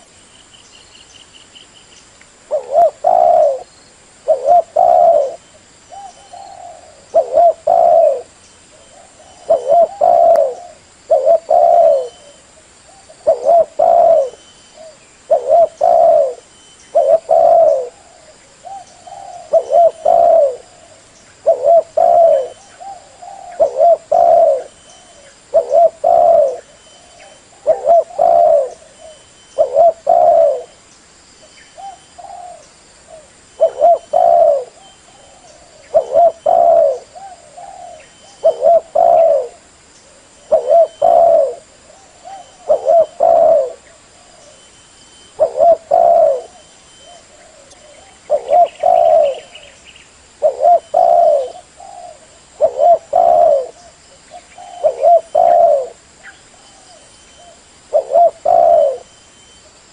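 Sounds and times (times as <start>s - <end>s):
dove cooing: 2.5s - 30.8s, 31.7s - 59.8s.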